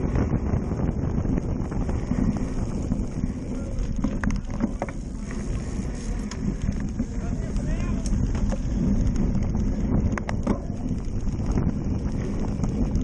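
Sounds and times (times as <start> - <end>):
bike rattling: 0.0 - 13.0
wind buffeting microphone: 0.0 - 13.0.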